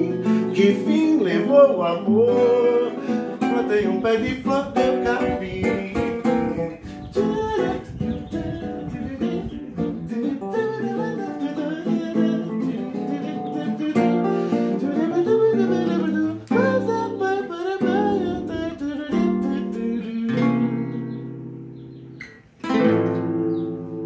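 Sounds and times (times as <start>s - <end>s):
man singing: 0.0s - 21.3s
strummed acoustic guitar: 0.0s - 24.0s.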